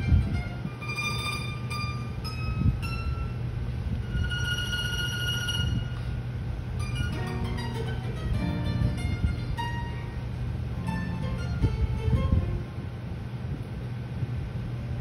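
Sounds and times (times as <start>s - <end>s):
bandurria long high notes: 0.0s - 12.8s
soft guitar accompaniment: 0.0s - 12.8s.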